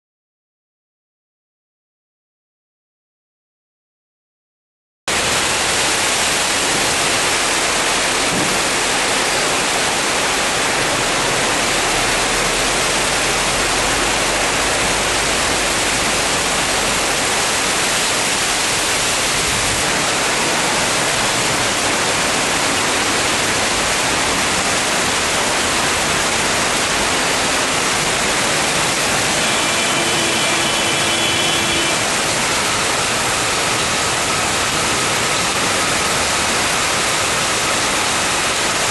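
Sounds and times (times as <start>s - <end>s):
heavy rain hissing: 5.1s - 38.9s.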